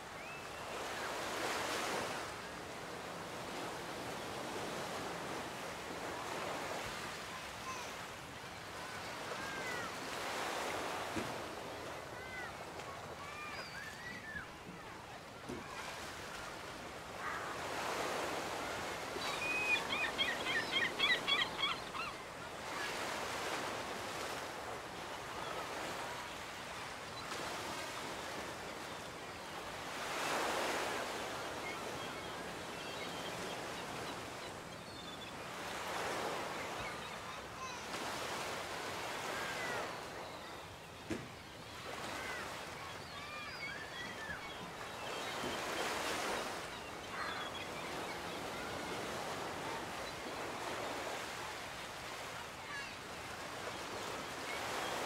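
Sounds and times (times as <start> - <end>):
small waves washing onto beach: 0.0 - 34.7, 35.3 - 55.0.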